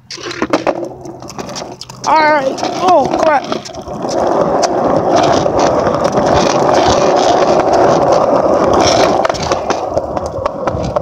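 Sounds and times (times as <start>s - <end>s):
skateboard wheels rolling on pavement: 0.0s - 11.0s.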